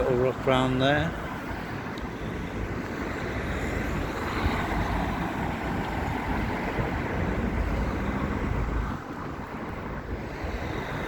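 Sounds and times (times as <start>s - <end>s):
road traffic passing: 0.0s - 11.0s
wind rumbling on microphone: 0.0s - 11.0s.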